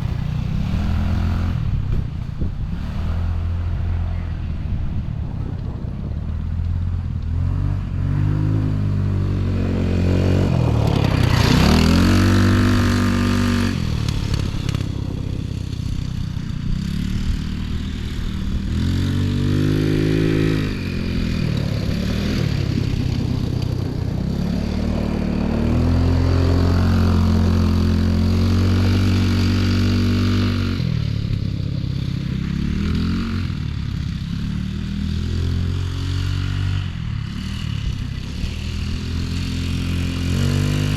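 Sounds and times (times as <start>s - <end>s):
off-road bike engine revving: 0.0s - 40.9s.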